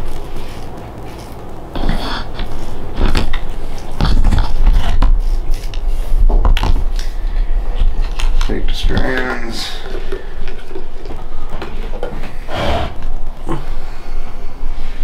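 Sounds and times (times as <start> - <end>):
low rumble of handling: 0.0 - 15.0.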